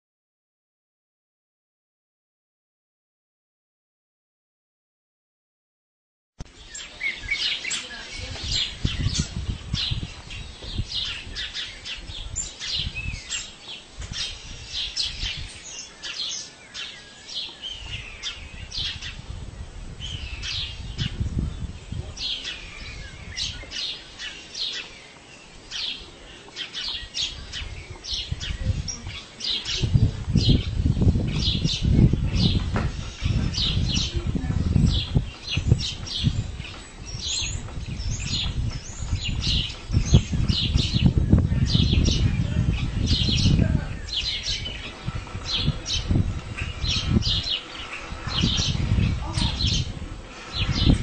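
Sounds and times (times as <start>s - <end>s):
small birds chirping: 6.4s - 51.0s.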